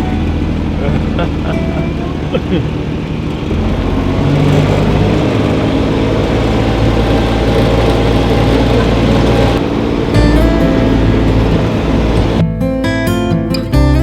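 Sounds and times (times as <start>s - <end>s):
vehicle engine humming: 0.0s - 12.5s.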